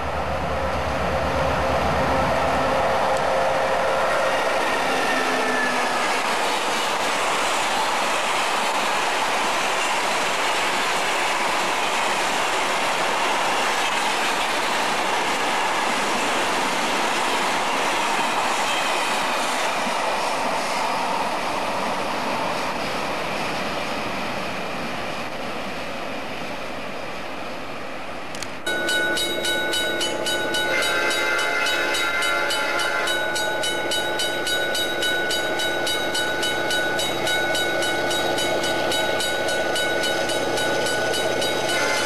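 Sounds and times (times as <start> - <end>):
train wagons rolling on rails: 0.0 - 42.0.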